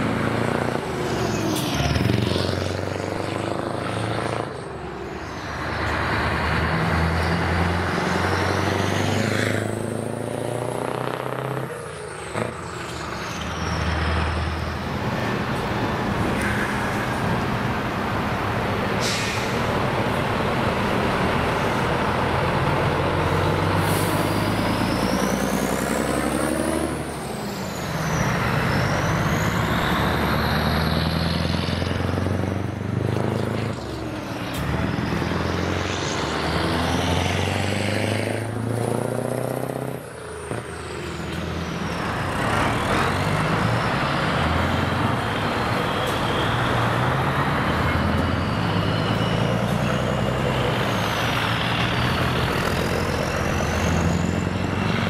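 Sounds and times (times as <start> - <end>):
truck diesel engines revving: 0.0 - 55.0.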